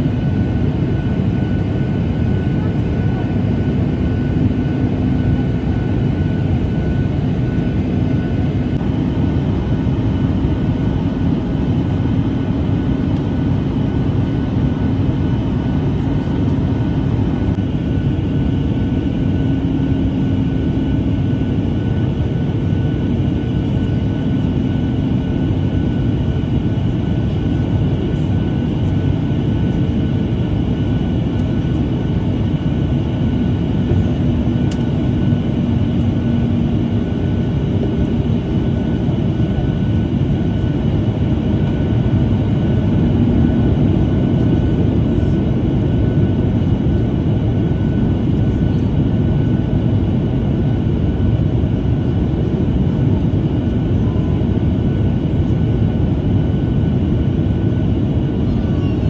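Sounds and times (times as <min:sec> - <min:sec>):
jet engines and airflow rush: 0:00.0 - 0:59.0.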